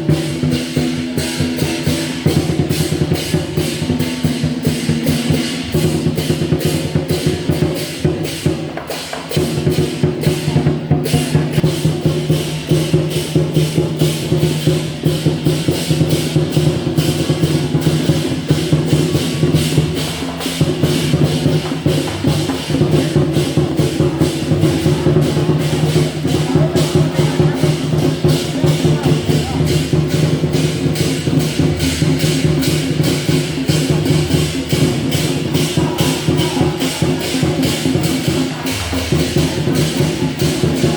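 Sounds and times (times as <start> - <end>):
drum and clapper strikes: 0.0 - 40.9.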